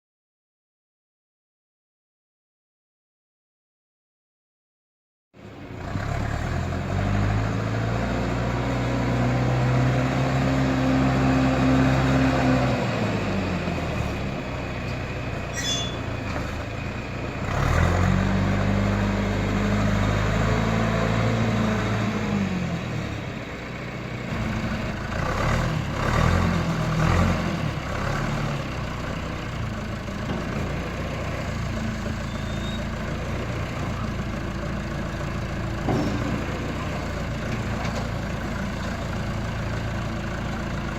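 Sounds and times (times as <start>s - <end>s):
diesel engine revving: 5.5s - 40.9s.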